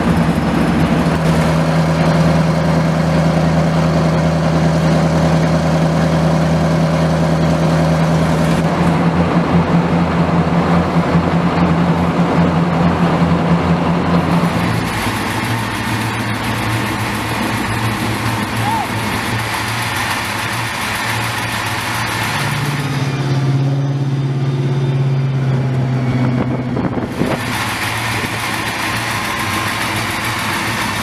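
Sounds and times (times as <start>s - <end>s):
diesel locomotive engine humming: 0.0s - 31.0s.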